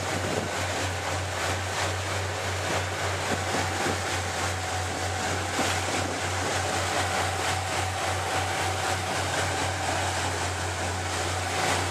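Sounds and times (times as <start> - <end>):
motorboat engine: 0.0 - 11.9
wind and water rushing: 0.0 - 11.9.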